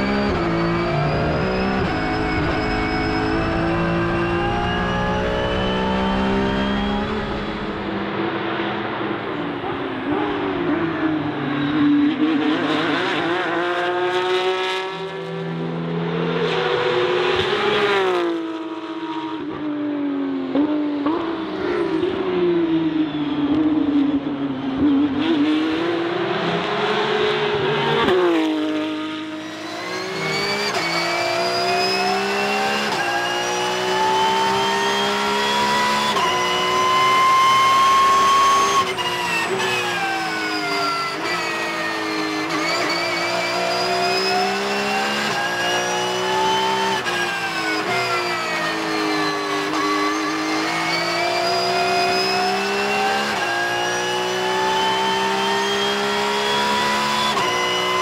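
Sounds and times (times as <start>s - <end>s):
race car engine revving: 0.0s - 19.5s, 20.5s - 58.0s.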